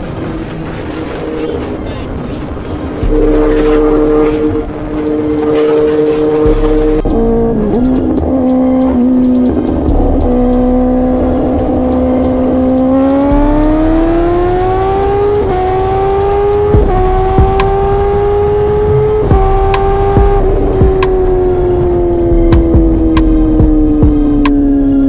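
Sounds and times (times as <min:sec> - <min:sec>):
gear change: 0:00.0 - 0:25.0
motorcycle engine revving: 0:02.8 - 0:25.0
music with steady beat: 0:03.0 - 0:25.0.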